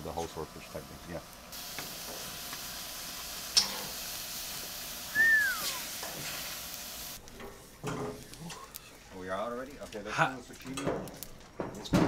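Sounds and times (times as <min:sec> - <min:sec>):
fish sizzling on grill: 0:00.0 - 0:11.3.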